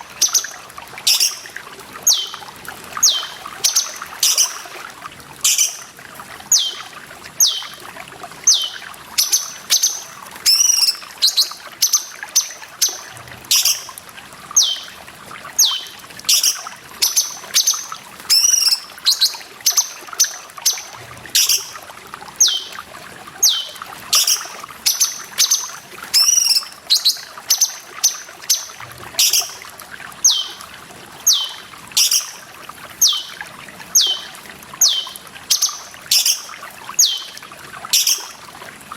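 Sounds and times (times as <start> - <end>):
running water trickling: 0.0 - 38.9.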